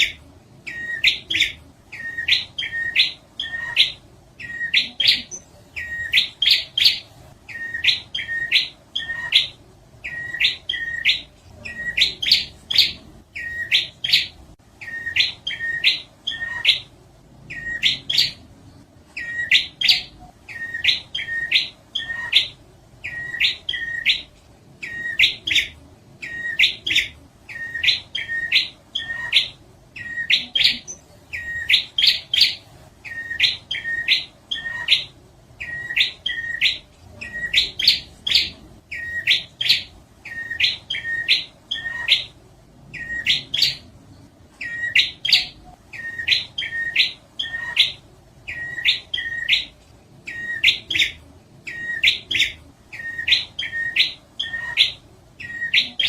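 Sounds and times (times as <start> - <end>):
bird song of sharp high chirps: 0.0 - 56.0.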